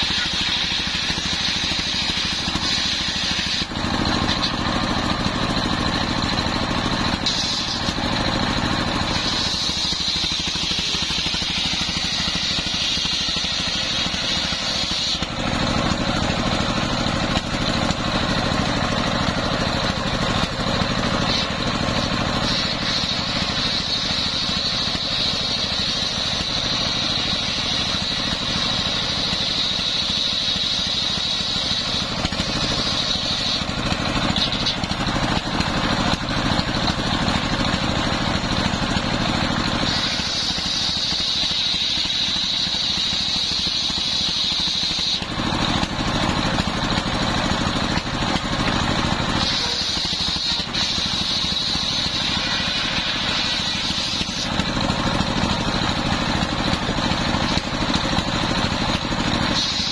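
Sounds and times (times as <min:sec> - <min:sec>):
circular saw cutting wood: 0:00.0 - 0:59.9
stationary engine running: 0:00.0 - 0:59.9.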